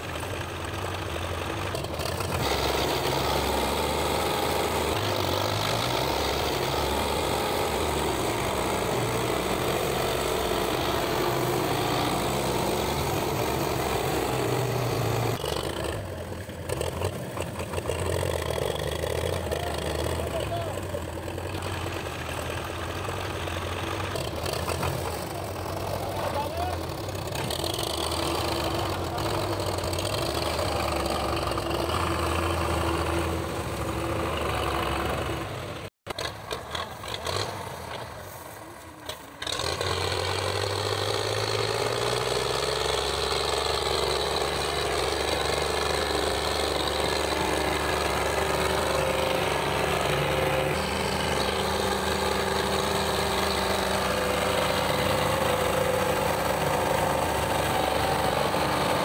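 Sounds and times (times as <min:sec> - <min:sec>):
tractor diesel engines running: 0:00.0 - 0:59.0.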